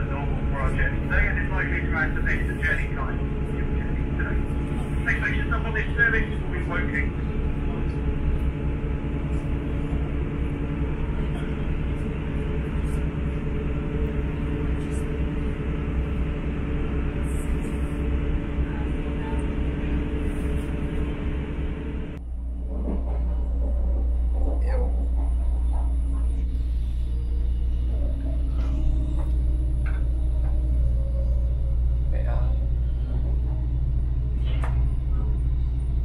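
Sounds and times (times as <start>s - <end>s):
low drone from underneath: 0.0s - 36.0s
muffled low rumble: 0.0s - 36.0s
train wheels rumbling on rail: 0.0s - 36.0s.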